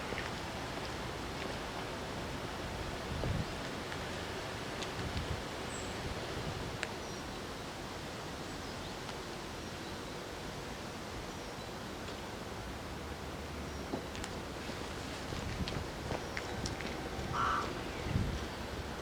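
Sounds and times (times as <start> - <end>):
wind rustling: 0.0 - 19.0.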